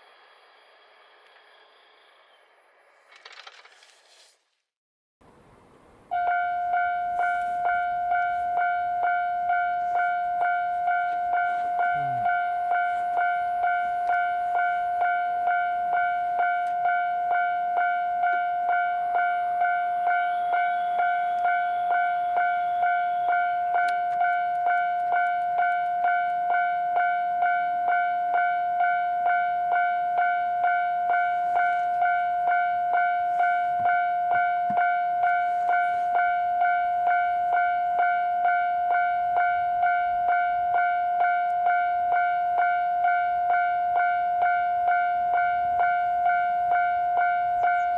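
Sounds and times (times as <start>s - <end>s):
level-crossing electronic bell ringing: 6.1s - 47.9s.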